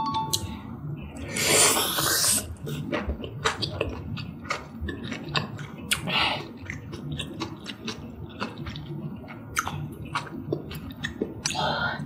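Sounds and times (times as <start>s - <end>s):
person chewing: 1.2s - 12.0s.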